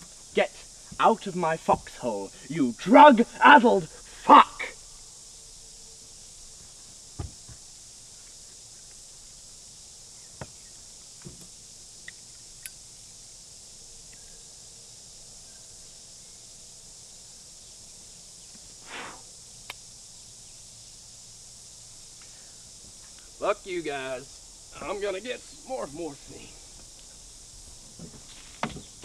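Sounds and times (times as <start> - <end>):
high-pitched hiss: 0.0 - 29.0.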